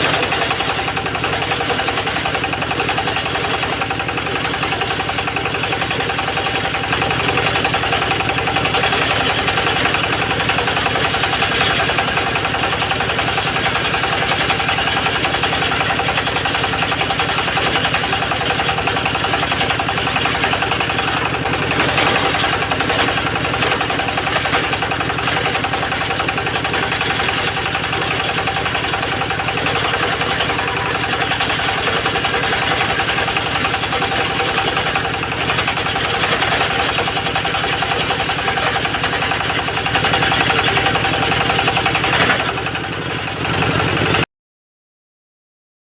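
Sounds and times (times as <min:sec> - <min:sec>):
circular saw mill sawing wood: 0:00.0 - 0:44.2.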